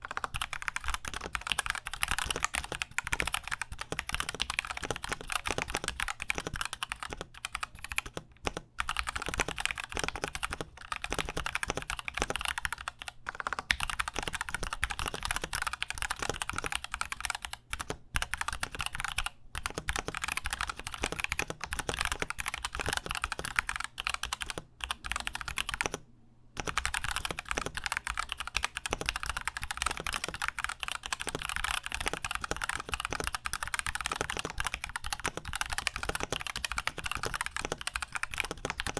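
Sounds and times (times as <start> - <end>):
mechanical keyboard typing: 0.0 - 26.0, 26.6 - 38.9.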